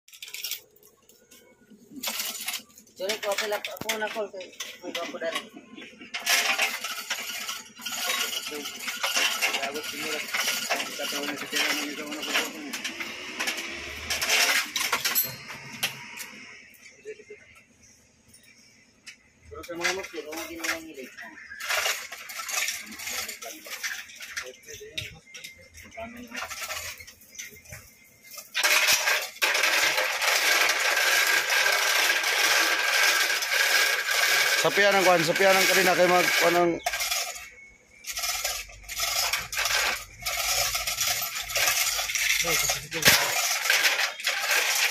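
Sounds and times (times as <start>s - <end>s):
chain hoist chains jangling: 0.1s - 0.8s, 1.9s - 16.8s, 19.6s - 44.9s.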